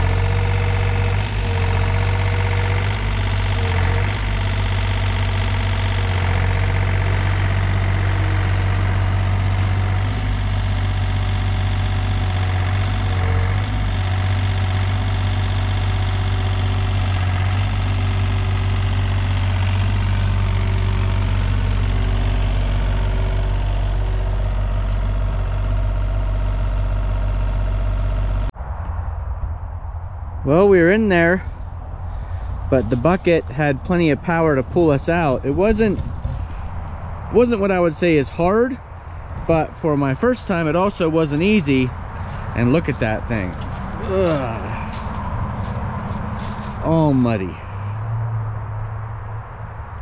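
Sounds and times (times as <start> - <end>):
excavator diesel engine running: 0.0 - 28.5, 30.5 - 48.2.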